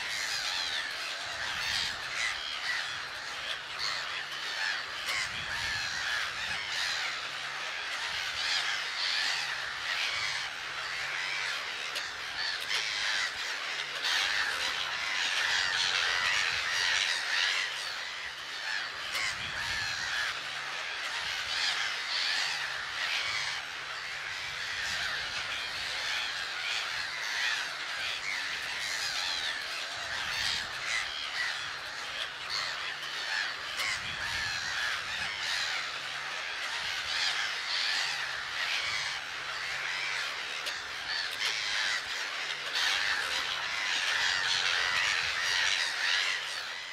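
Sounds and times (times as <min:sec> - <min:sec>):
gulls calling: 0:00.0 - 0:46.9.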